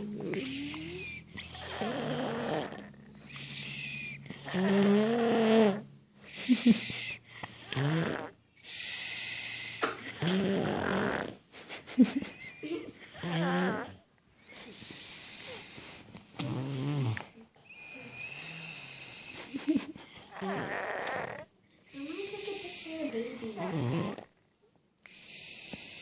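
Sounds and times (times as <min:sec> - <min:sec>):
baby snoring: 0:00.0 - 0:11.4, 0:13.0 - 0:24.4, 0:25.0 - 0:26.0.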